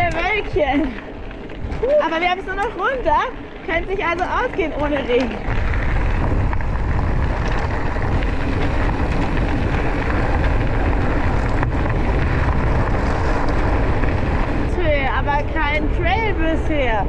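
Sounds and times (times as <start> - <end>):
tyres rolling over gravel: 0.0 - 17.0
wind rumbling on microphone: 0.0 - 17.0.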